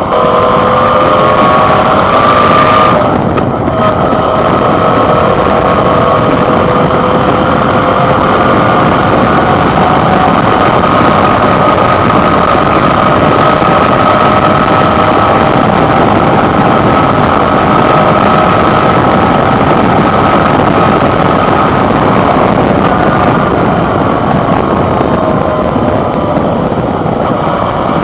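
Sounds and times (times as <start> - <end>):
motorcycle engine cruising: 0.0 - 28.0
wind rush: 0.0 - 28.0.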